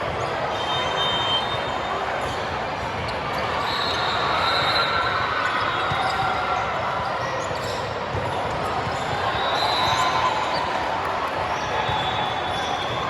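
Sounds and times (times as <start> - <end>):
busy gym hall noise: 0.0 - 13.0.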